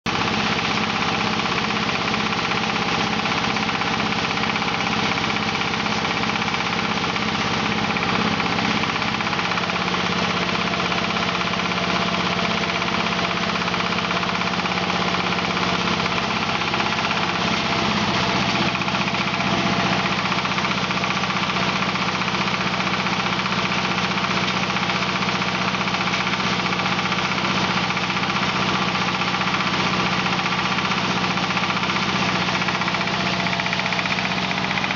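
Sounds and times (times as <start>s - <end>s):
diesel engine running hammer mill: 0.1s - 34.9s.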